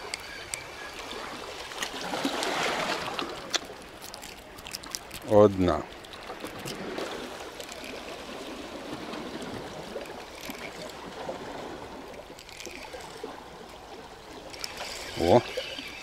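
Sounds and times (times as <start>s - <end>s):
small waves washing among rocks: 0.0s - 16.0s.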